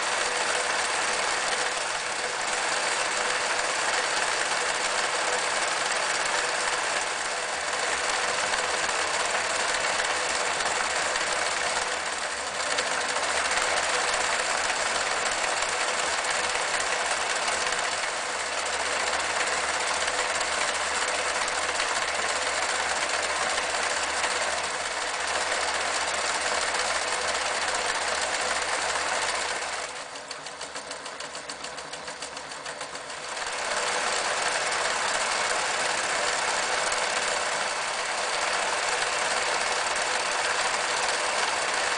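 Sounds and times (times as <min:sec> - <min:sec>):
sewing machine stitching: 0:00.0 - 0:41.9.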